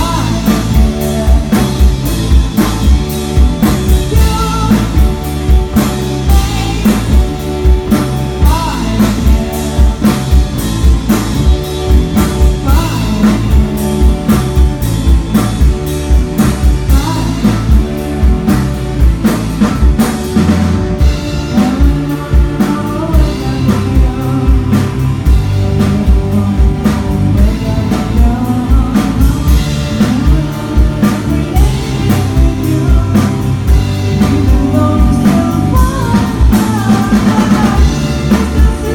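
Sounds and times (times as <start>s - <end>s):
person singing: 0.0s - 19.0s, 21.0s - 38.9s
drum kit beat: 0.0s - 38.9s
rock song: 0.0s - 38.9s.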